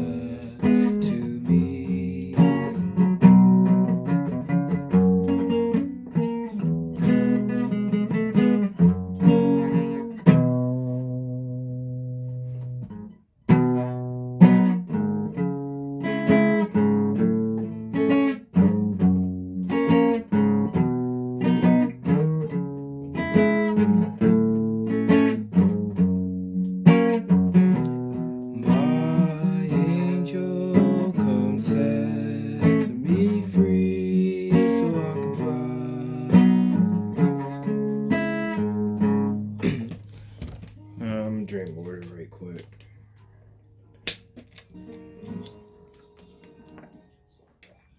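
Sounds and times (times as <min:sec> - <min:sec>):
guitar strumming chords: 0:00.0 - 0:40.0.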